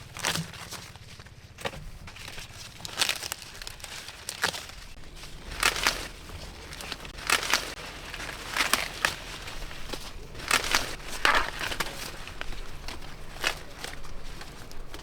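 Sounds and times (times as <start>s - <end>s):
corn ears snapping off: 0.0s - 15.0s
dry corn plants rustling: 0.0s - 15.0s.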